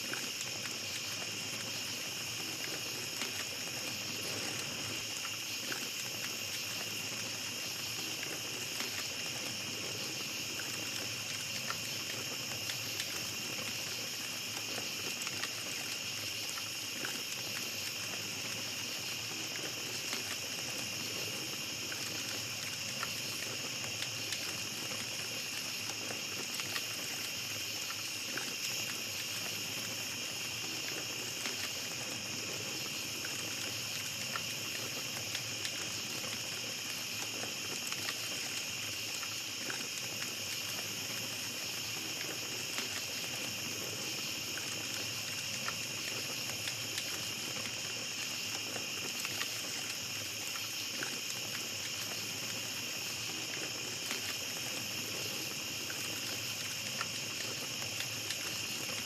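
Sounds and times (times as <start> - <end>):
campfire crackling and popping: 0.0 - 59.0
night insects chirring: 0.0 - 59.0.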